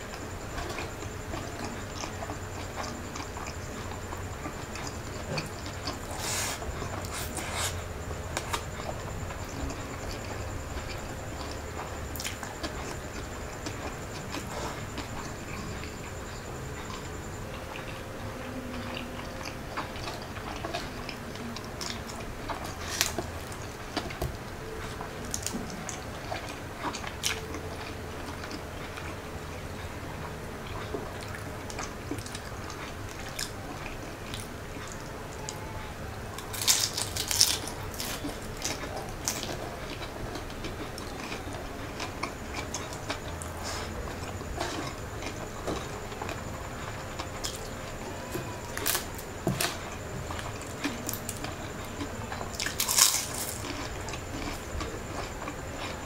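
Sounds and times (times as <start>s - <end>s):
man chewing and eating: 0.0s - 56.0s.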